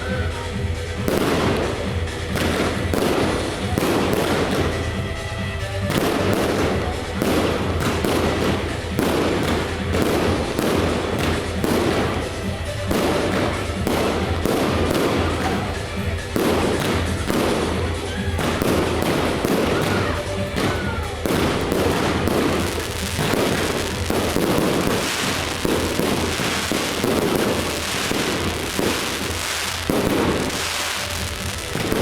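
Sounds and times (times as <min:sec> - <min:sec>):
fireworks bangs and crackles: 0:00.0 - 0:32.0
music playing: 0:00.0 - 0:32.0.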